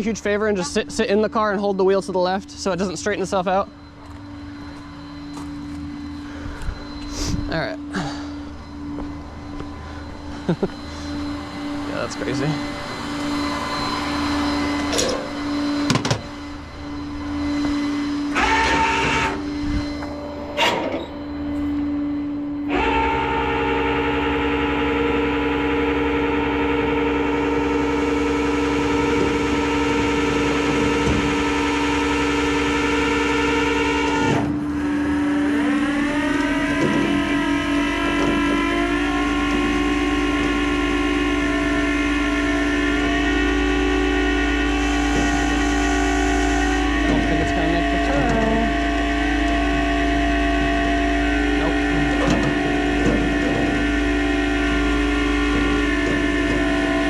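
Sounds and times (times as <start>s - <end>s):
hydraulic pump whine: 0.0s - 57.0s
truck engine drone: 0.0s - 57.0s.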